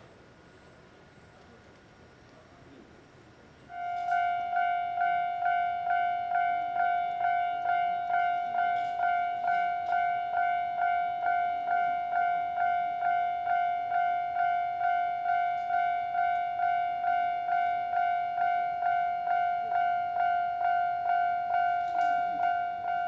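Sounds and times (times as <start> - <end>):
level crossing bell ringing: 3.8 - 23.0.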